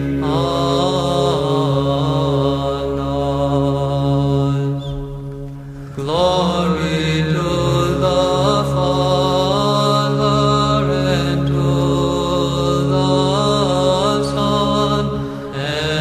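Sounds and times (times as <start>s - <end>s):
chant sung over drone: 0.0s - 16.0s.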